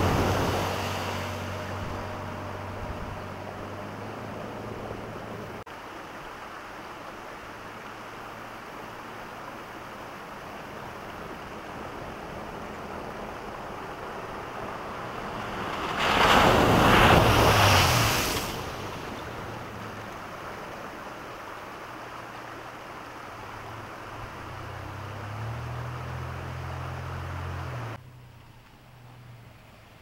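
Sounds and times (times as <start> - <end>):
pickup truck engine: 0.0 - 5.7, 8.4 - 30.0
loud rushing splash of water: 0.0 - 28.0.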